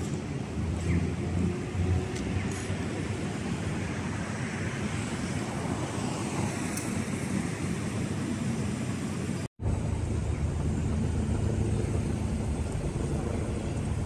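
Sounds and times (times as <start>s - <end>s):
street traffic rumbling: 0.0s - 14.0s.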